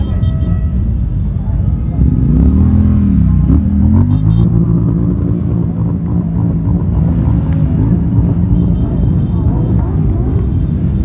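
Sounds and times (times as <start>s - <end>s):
motorcycle engines passing slowly: 0.8s - 11.0s.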